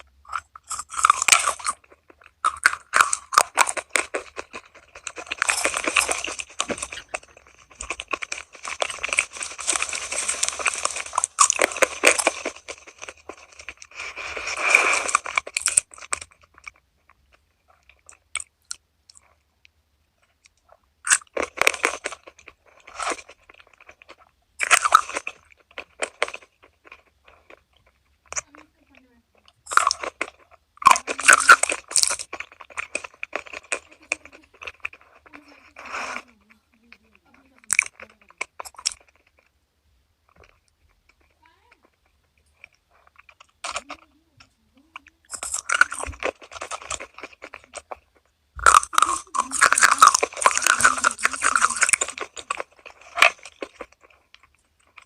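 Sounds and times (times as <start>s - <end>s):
crunching and chewing crispy food: 0.0s - 55.0s.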